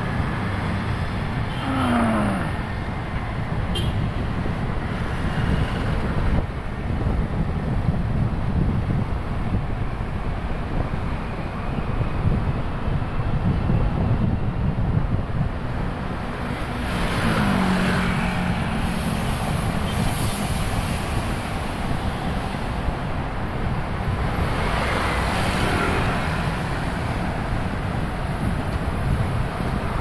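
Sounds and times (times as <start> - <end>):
road and traffic noise: 0.0 - 30.0
wind rumble on microphone: 0.0 - 30.0.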